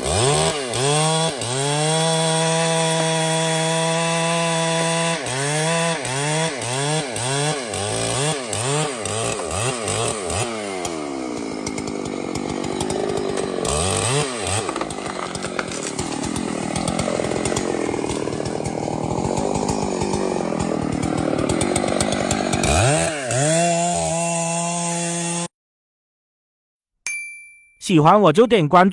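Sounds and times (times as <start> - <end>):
chainsaw cutting wood: 0.0 - 25.5.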